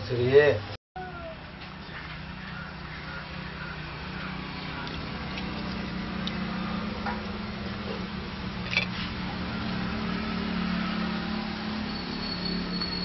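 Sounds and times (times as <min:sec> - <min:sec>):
low motor hum: 0:01.0 - 0:11.9.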